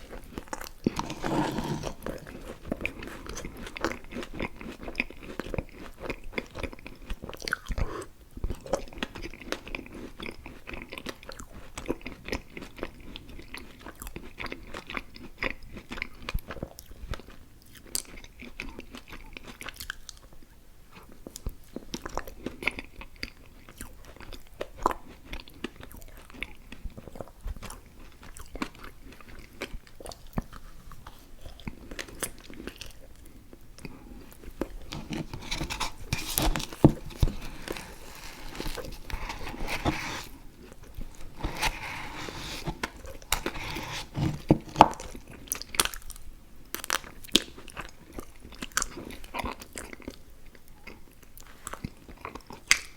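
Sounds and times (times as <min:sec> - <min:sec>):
person chewing sticky candy: 0:00.0 - 0:52.9.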